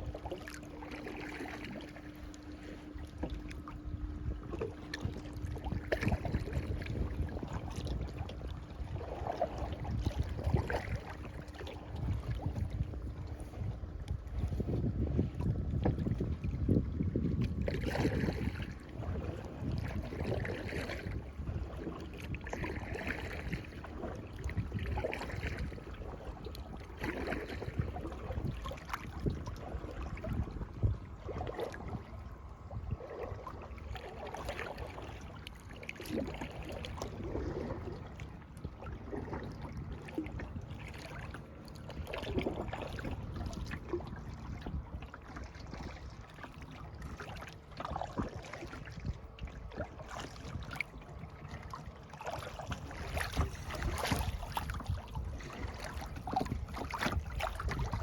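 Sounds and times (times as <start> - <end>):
paddle splashing in water: 0.0 - 58.0
wind rumble on microphone: 0.0 - 58.0.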